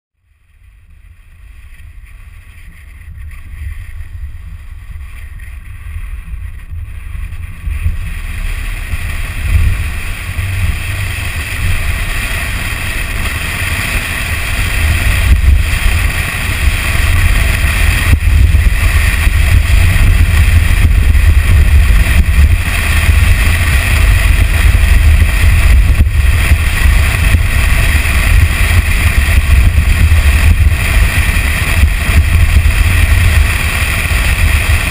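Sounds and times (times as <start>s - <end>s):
tyre and vehicle noise: 0.2s - 34.9s
wind buffeting microphone: 1.7s - 34.9s.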